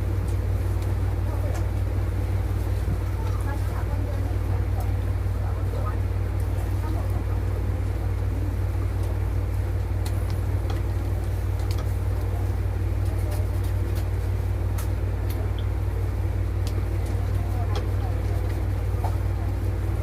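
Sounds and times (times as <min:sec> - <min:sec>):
low rumble of road vehicle: 0:00.0 - 0:20.0.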